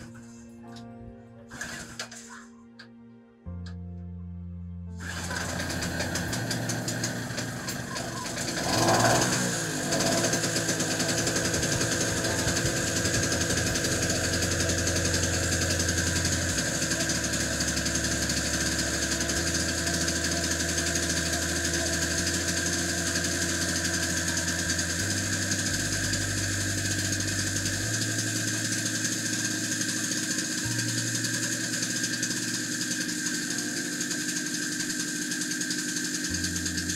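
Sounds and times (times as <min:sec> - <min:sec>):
generator engine running: 0:05.0 - 0:36.9.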